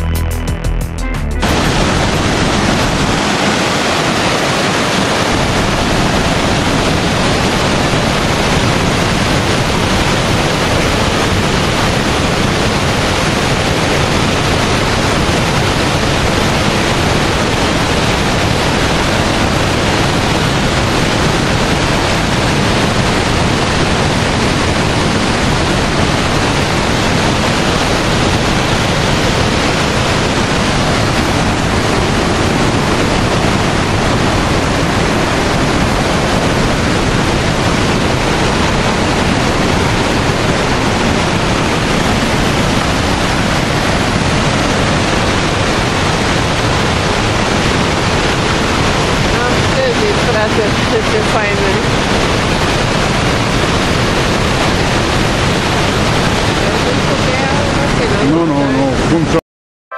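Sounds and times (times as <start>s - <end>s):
waterfall and stream rushing: 1.4s - 59.4s.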